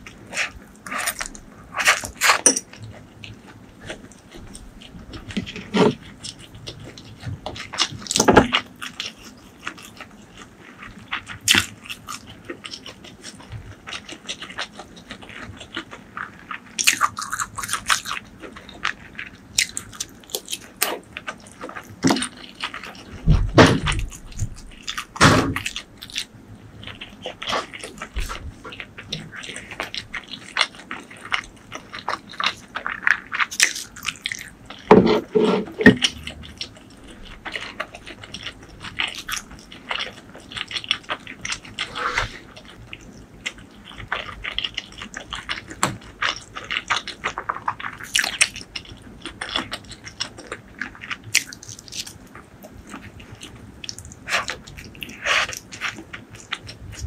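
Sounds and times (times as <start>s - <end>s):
chewing with wet mouth clicks: 0.0s - 34.9s, 36.0s - 57.0s.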